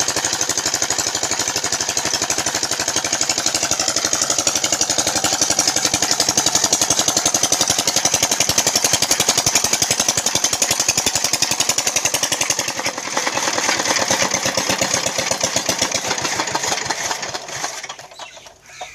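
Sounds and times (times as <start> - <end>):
diesel engine knocking: 0.0 - 18.9.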